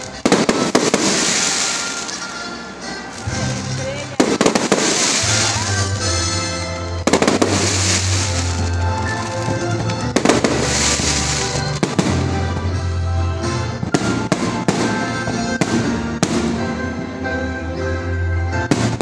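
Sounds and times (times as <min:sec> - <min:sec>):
fireworks crackling hiss: 0:00.0 - 0:17.2
fireworks bursting: 0:00.0 - 0:17.4, 0:18.6 - 0:19.0
music: 0:00.0 - 0:19.0.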